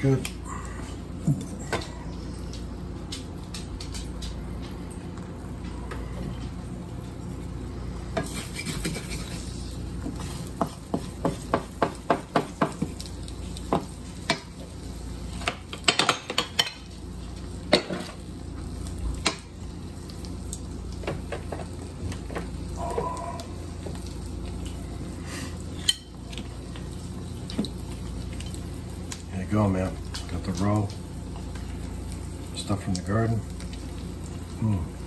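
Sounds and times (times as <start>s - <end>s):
food sizzling in a frying pan: 6.7s - 35.0s.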